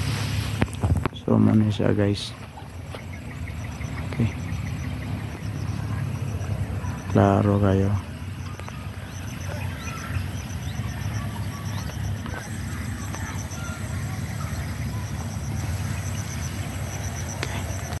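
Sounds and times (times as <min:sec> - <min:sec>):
faint high chirping: 0:01.6 - 0:18.0.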